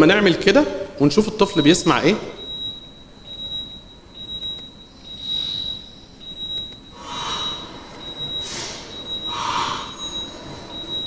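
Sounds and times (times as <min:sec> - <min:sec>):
high-pitched monitor alarm tone: 0:00.0 - 0:11.0.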